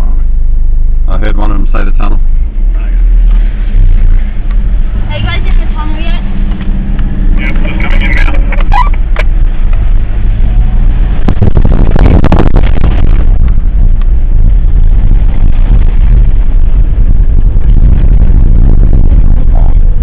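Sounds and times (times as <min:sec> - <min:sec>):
engine and tyre rumble: 0:00.0 - 0:20.0.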